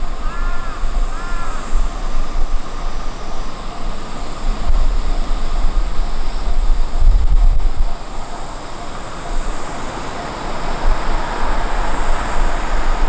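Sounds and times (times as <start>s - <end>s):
train passing close by: 0.0s - 13.0s.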